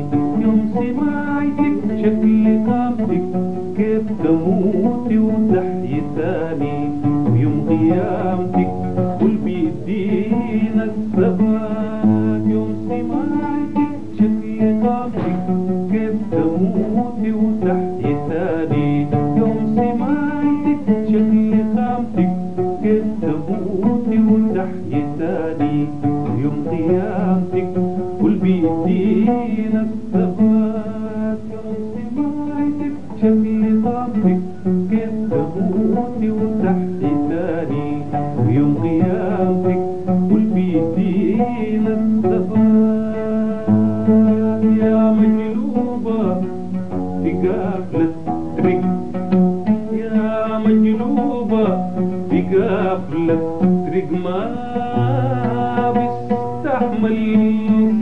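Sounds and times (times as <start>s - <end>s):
oud plucked melodic runs: 0.0s - 58.0s.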